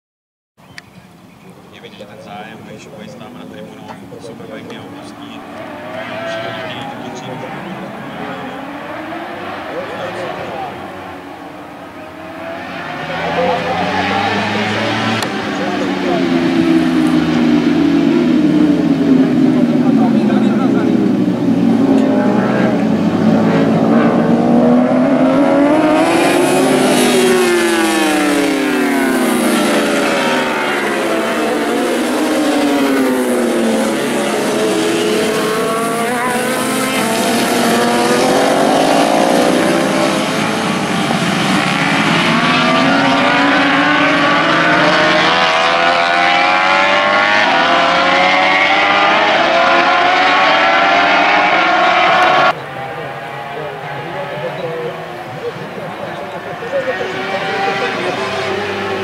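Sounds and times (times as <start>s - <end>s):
motorcycles racing past: 1.8s - 59.0s.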